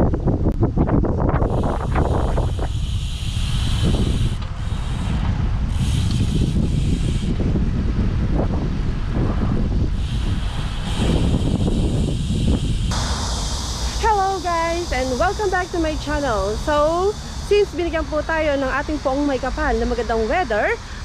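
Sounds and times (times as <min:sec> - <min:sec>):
wind buffeting microphone: 0:00.0 - 0:21.0
high hiss: 0:01.4 - 0:07.4, 0:09.9 - 0:21.0.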